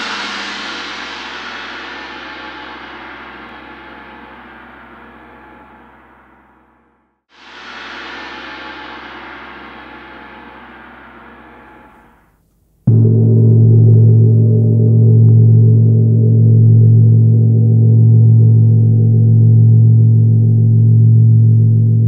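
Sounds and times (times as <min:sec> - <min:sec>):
gong ringing: 0:00.0 - 0:06.8, 0:08.1 - 0:12.2, 0:12.9 - 0:20.3.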